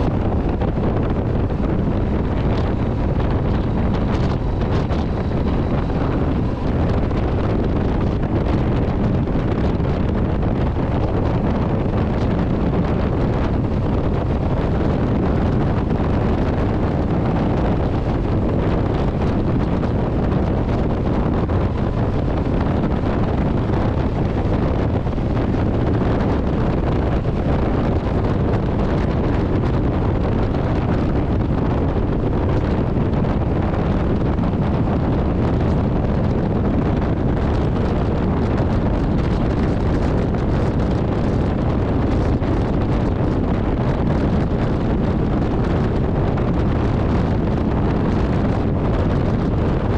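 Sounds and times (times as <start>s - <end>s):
motorcycle engine running: 0.0s - 49.8s
wind rush on microphone: 0.0s - 49.9s.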